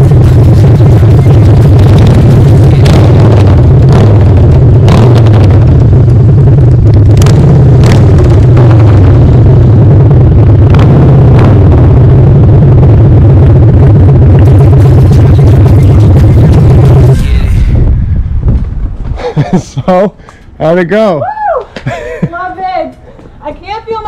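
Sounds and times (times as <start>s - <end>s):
motorcycle exhaust growl: 0.0s - 19.9s.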